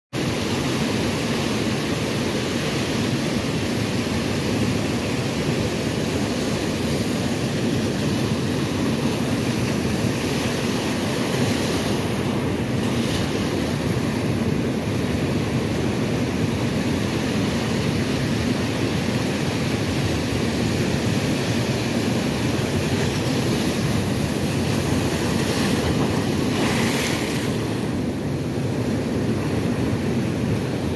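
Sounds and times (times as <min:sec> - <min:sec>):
hissing surf surges: 0:00.2 - 0:30.9
ocean surf washing over rocks: 0:00.2 - 0:30.9.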